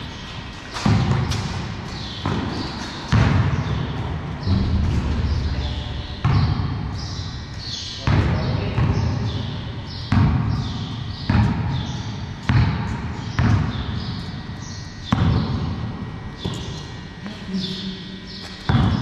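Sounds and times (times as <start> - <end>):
basketball bouncing on concrete: 0.0 - 16.9, 18.4 - 19.0.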